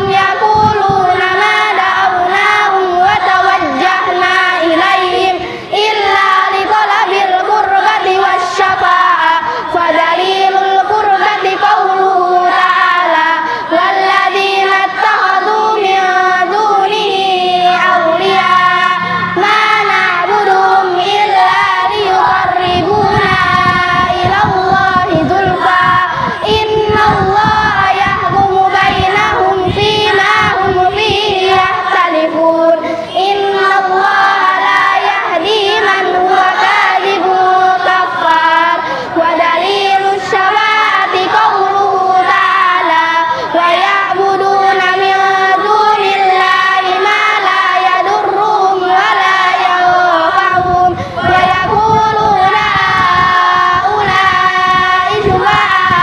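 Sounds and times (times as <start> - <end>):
children chanting in unison: 0.0 - 56.0.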